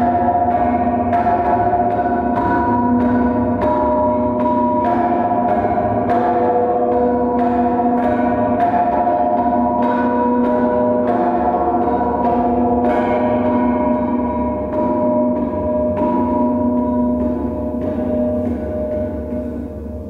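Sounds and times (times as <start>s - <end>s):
metal sculptures ringing like gongs: 0.0s - 20.0s.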